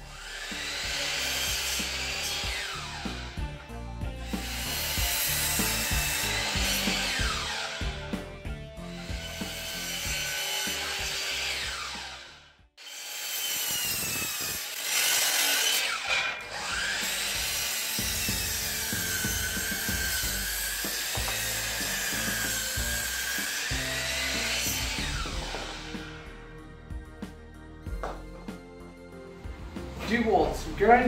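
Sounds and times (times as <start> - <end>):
saw blade rasping in wood: 0.0 - 26.4
miter saw motor whining: 0.0 - 26.6.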